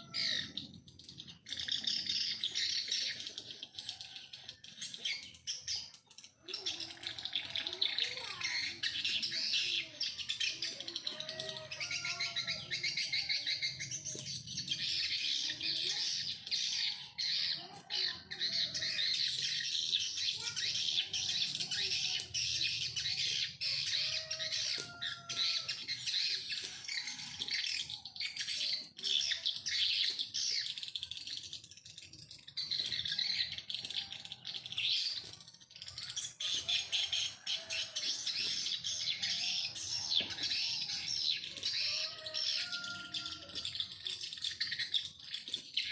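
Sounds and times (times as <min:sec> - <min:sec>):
small birds chirping and squawking: 0:00.0 - 0:45.9.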